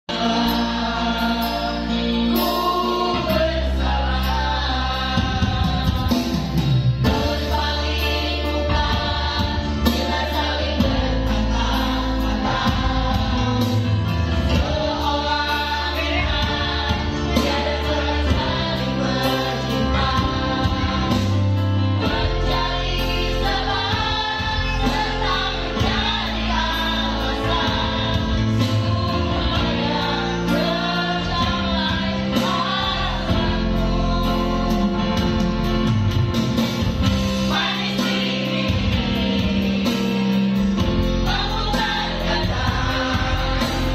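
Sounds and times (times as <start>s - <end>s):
group singing into microphones: 0.0s - 43.9s.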